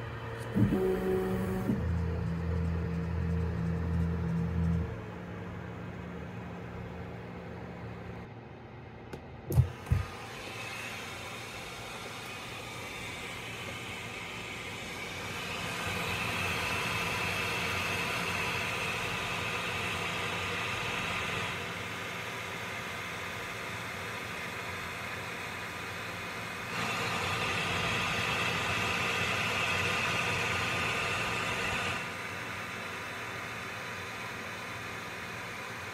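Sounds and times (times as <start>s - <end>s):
printer fans whirring: 0.0s - 35.9s.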